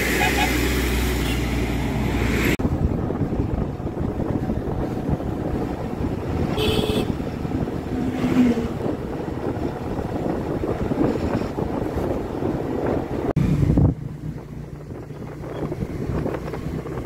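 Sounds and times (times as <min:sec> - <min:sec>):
car engine and road noise: 0:00.0 - 0:17.0
wind on microphone: 0:02.2 - 0:17.0.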